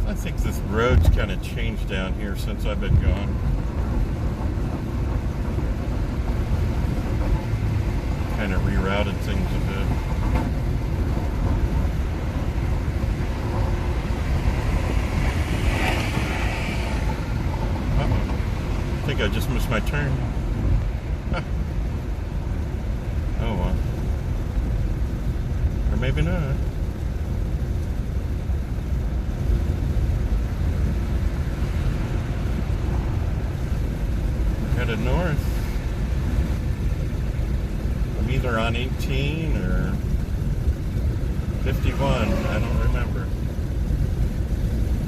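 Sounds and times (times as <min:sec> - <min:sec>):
road and tyre noise: 0:00.0 - 0:45.0.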